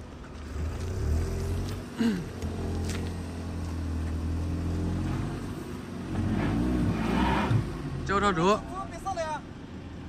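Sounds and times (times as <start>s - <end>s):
car engine at low revs: 0.0s - 10.0s.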